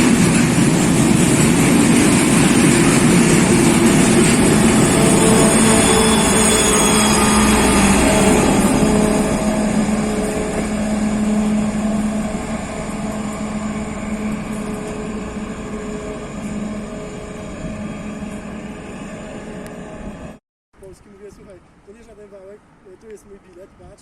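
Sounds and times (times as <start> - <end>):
diesel train engine drone: 0.0 - 20.4
train wheel rumble: 0.0 - 20.4.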